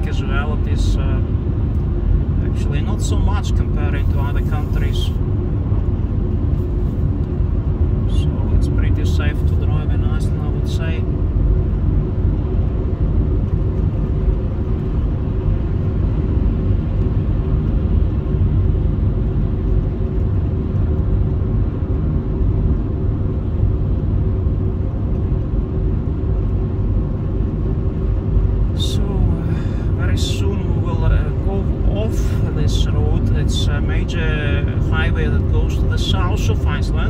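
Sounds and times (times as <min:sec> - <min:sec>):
car driving on highway: 0:00.0 - 0:37.0.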